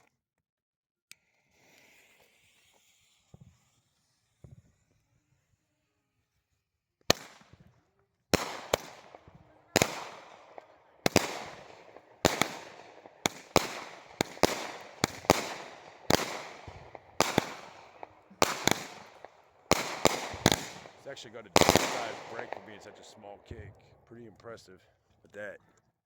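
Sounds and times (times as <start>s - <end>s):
fireworks shots with crackle: 1.5s - 5.6s, 7.0s - 24.6s.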